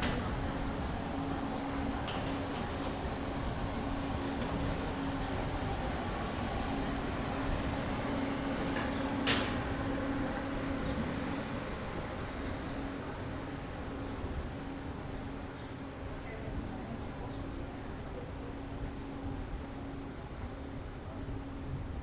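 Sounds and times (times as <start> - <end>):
train low hum: 0.0 - 22.0.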